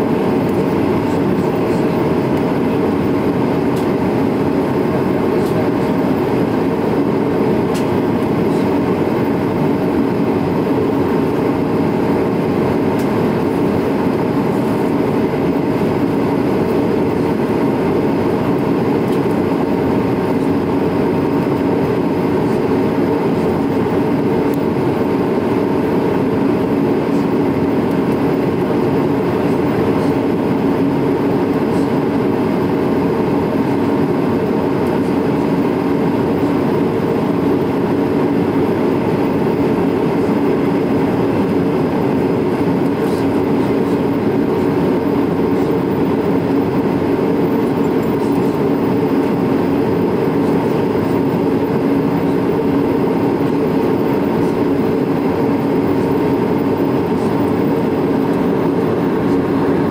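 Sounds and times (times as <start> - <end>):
jet engine and airflow rush: 0.0 - 59.9
steady hum tone: 0.0 - 59.9.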